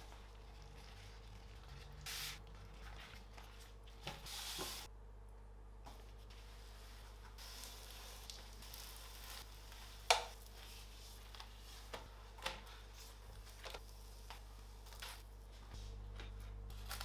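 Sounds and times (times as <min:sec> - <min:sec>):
faint sizzle: 0:00.0 - 0:04.9, 0:05.9 - 0:17.0.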